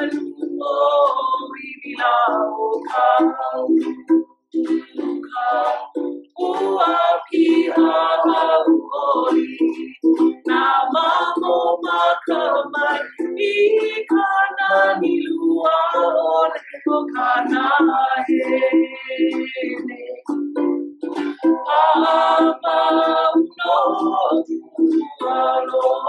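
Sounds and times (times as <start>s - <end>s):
group singing in unison: 0.0s - 20.4s, 21.2s - 26.0s
ukulele strumming: 0.0s - 26.0s.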